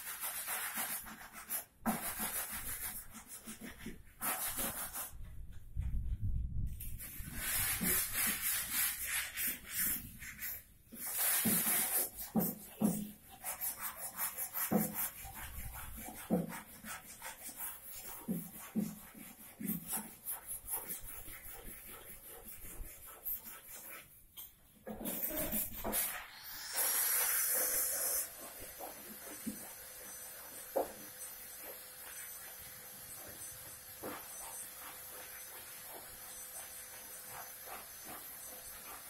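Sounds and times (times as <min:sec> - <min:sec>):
rubbing on wooden furniture: 0:00.0 - 0:06.1, 0:07.0 - 0:24.2, 0:24.9 - 0:39.0.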